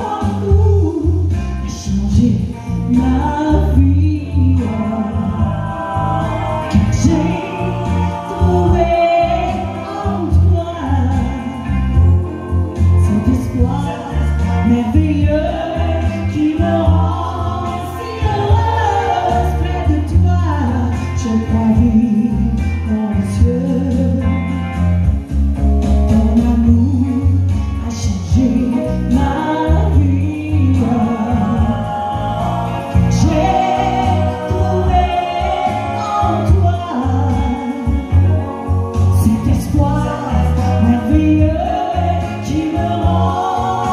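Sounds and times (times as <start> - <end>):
woman singing into microphone: 0.0 - 24.9, 25.8 - 43.9
amplified backing music: 0.0 - 43.9.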